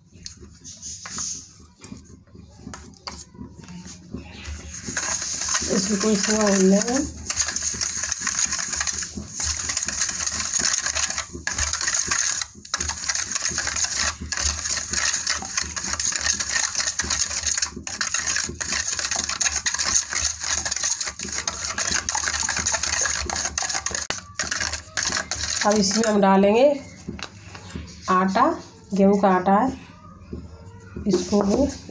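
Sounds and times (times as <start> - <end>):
spoon scraping metal bowl: 4.2 - 29.1, 31.1 - 31.9.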